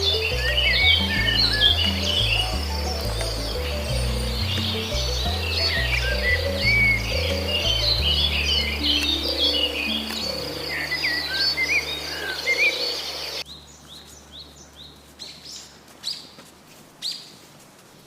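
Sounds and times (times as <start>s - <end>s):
birds chirping and singing: 0.0s - 16.3s.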